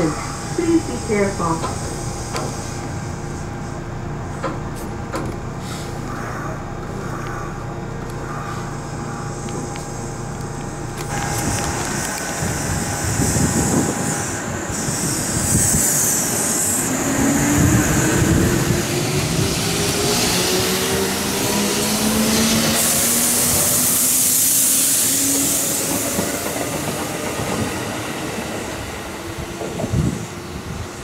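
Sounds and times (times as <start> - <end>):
electric train humming inside: 0.0 - 31.0
train passing at platform: 0.0 - 31.0.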